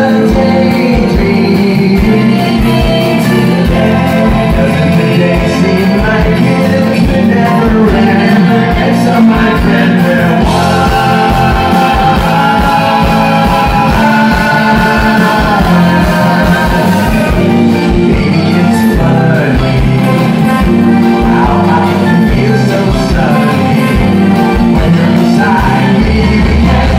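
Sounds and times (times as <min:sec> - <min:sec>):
electric guitars: 0:00.0 - 0:26.9
keyboard: 0:00.0 - 0:26.9
steady drum beat: 0:00.0 - 0:26.9
voices singing together: 0:00.0 - 0:26.9.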